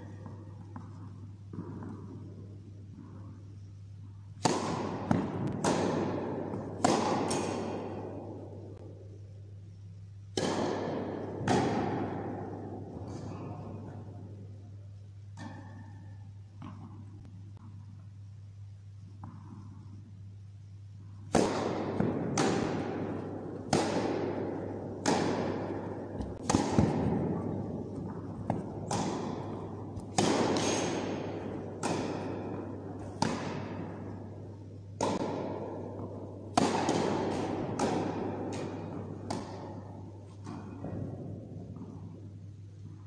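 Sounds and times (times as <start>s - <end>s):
tennis ball bouncing: 0.0s - 3.6s, 4.3s - 9.1s, 10.3s - 13.8s, 15.3s - 17.8s, 19.2s - 20.0s, 21.3s - 42.3s
rackets striking tennis ball: 0.0s - 3.7s, 4.3s - 14.5s, 15.2s - 18.1s, 19.1s - 20.0s, 21.2s - 43.0s.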